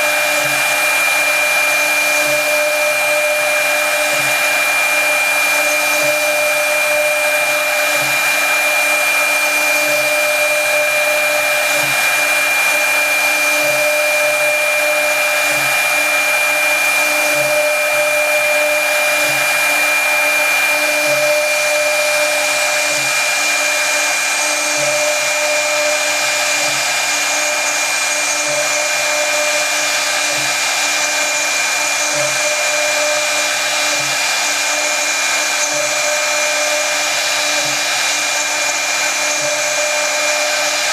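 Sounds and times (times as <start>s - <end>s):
router spindle whine: 0.0s - 40.9s
wood cutting hiss: 0.1s - 40.9s.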